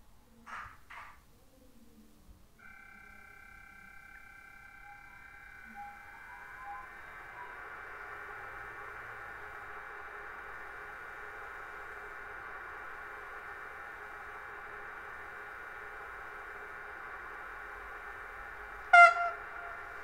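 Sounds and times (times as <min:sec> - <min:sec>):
hum and hiss: 0:01.6 - 0:20.0
steady high tones: 0:02.6 - 0:20.0.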